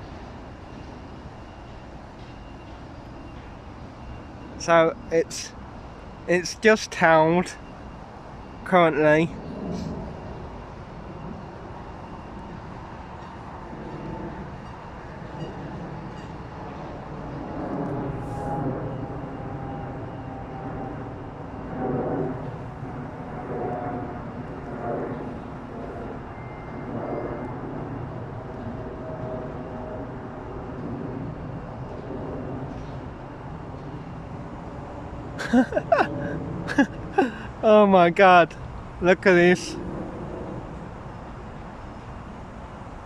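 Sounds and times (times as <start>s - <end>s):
distant heavy engines rumbling: 0.0s - 43.0s.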